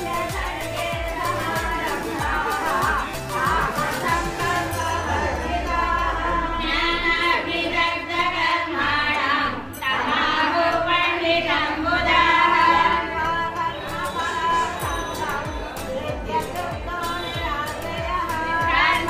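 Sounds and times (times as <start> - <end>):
women singing a hymn: 0.0 - 19.0.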